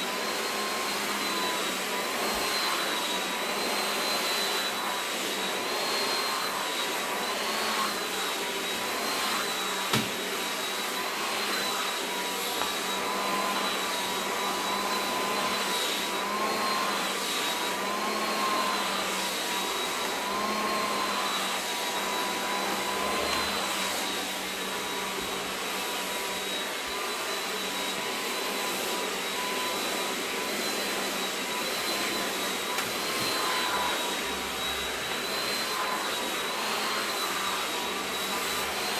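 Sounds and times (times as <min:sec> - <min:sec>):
blow-dry brush whirring: 0:00.0 - 0:38.9.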